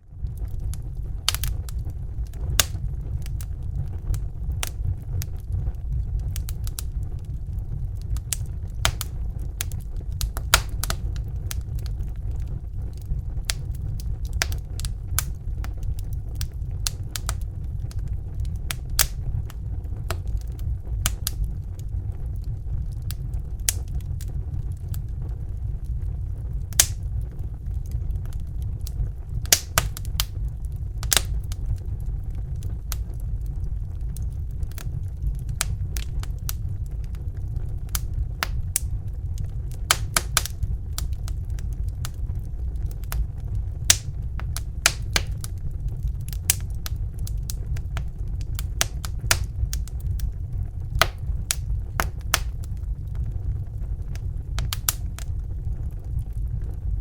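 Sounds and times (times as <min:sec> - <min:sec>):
burner flame roaring: 0:00.0 - 0:57.0
wood fire crackling: 0:00.0 - 0:57.0.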